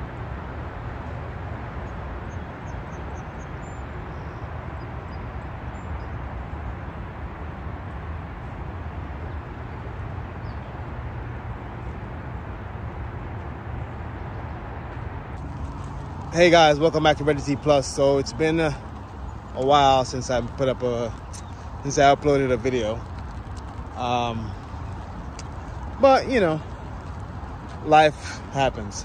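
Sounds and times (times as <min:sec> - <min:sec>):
outdoor rumbling noise: 0:00.0 - 0:29.0.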